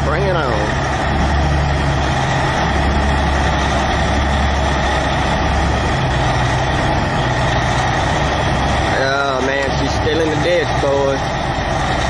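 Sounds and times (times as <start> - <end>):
heavy diesel truck engine: 0.0 - 12.0.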